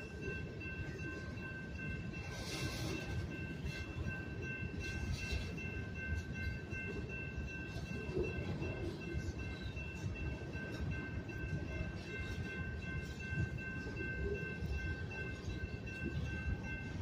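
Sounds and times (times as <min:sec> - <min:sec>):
crossing warning bell ringing: 0:00.0 - 0:17.0
freight train rumbling over rails: 0:00.0 - 0:17.0.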